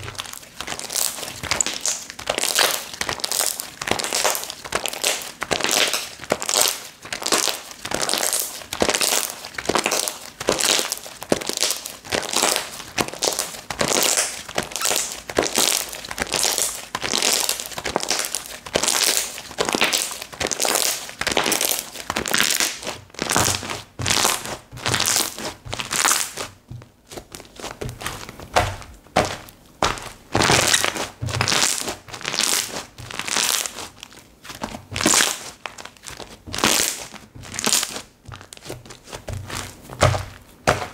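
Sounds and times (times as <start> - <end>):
slime squishing and crackling: 0.0 - 40.9.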